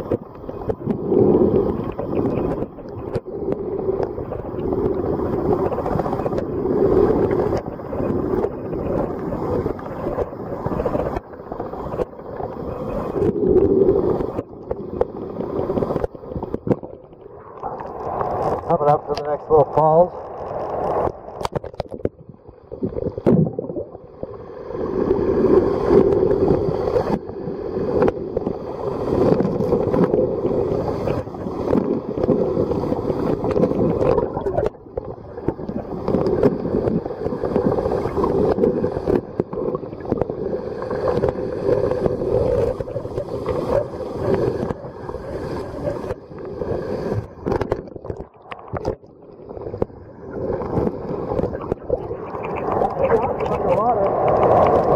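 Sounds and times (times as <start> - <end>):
muffled underwater river rushing: 0.0 - 54.9
small clicks and bubbles: 0.0 - 54.9.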